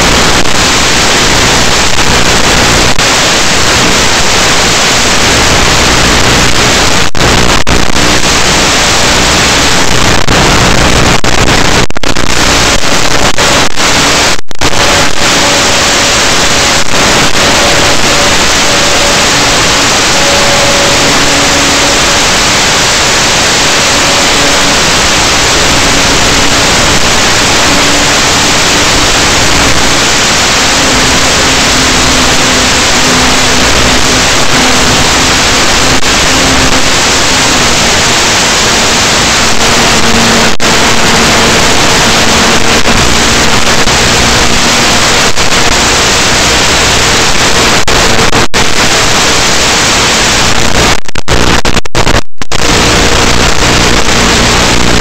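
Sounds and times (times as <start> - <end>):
faint hum: 0.0 - 55.0
static hiss: 0.0 - 55.0.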